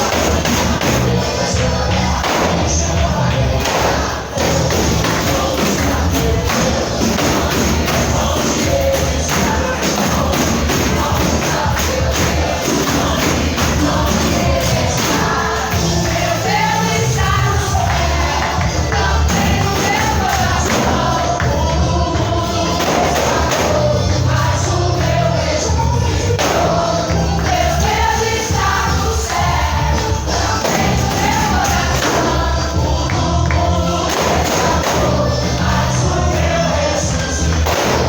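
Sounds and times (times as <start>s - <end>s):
band with heavy bass playing: 0.0s - 38.0s
group of voices singing: 0.0s - 38.0s.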